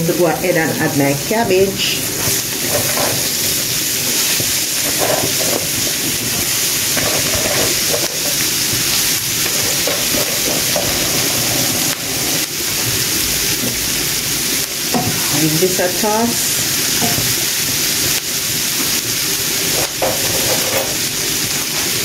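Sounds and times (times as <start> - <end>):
oil sizzling in a frying pan: 0.0 - 22.0.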